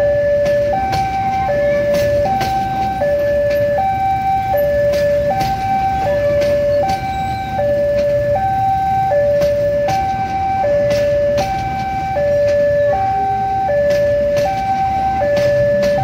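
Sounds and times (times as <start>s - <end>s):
train rumbling past: 0.0s - 16.0s
two-tone warning siren: 0.0s - 16.0s
wheels clacking on rails: 0.0s - 16.0s.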